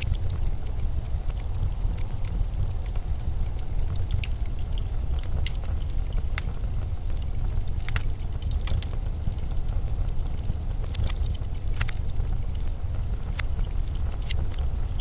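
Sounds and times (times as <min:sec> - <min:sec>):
blizzard wind rumble: 0:00.0 - 0:15.0
sharp crackles and ticks: 0:00.0 - 0:15.0.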